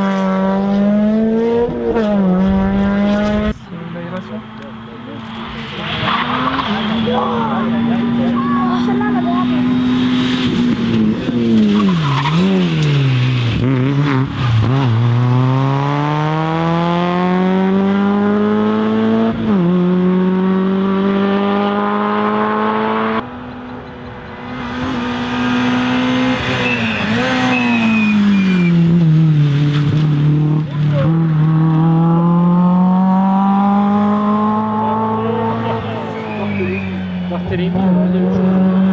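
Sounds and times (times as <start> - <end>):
rally car engine revving: 0.0 - 38.9
second rally car engine: 0.0 - 38.9.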